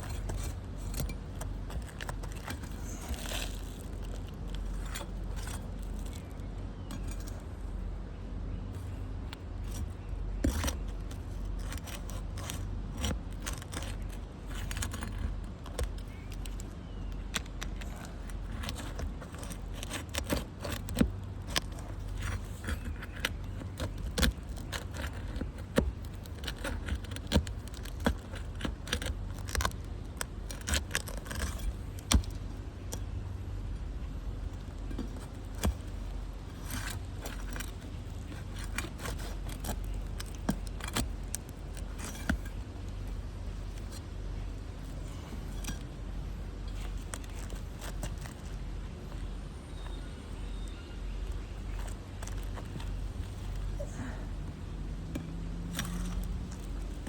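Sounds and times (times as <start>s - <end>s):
roof shingle scraping and crackling: 0.0s - 57.0s.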